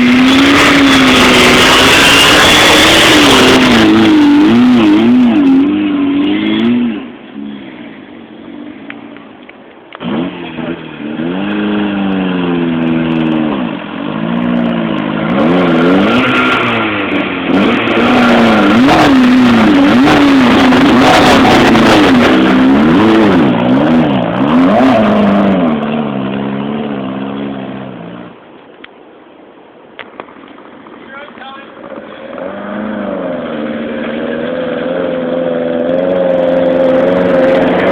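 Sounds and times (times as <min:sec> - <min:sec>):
car engine revving hard: 0:00.0 - 0:07.6, 0:10.0 - 0:28.3, 0:31.8 - 0:37.9.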